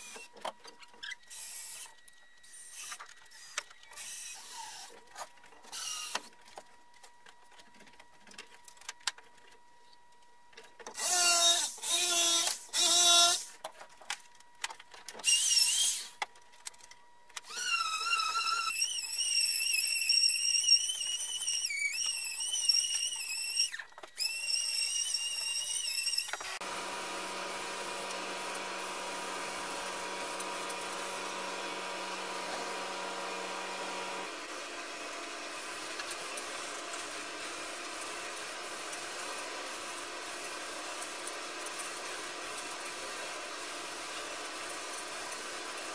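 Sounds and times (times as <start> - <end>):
power tool cutting wood: 0.0 - 0.4, 1.0 - 5.0, 5.7 - 6.3, 10.9 - 13.6, 15.2 - 16.2, 17.4 - 45.9
steady mechanical hum: 0.0 - 45.9.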